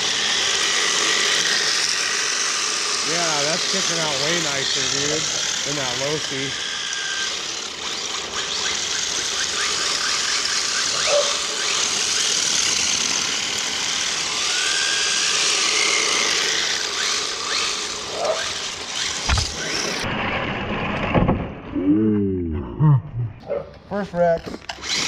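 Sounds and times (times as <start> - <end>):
faint motor whine: 0.0 - 21.2.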